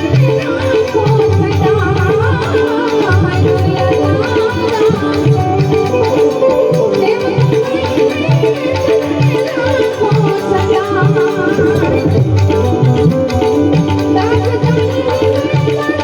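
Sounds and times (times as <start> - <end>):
folk music over sound system: 0.0 - 16.0.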